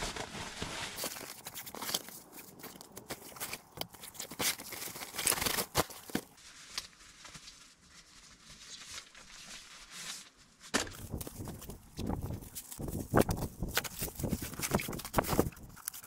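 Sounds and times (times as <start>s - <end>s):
rustling and crinkling handling noise: 0.0s - 16.0s.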